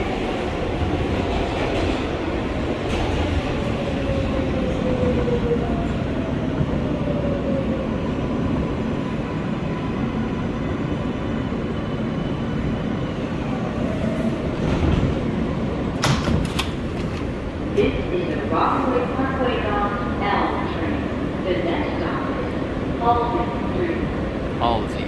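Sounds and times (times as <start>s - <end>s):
subway train rumble: 0.0s - 25.0s.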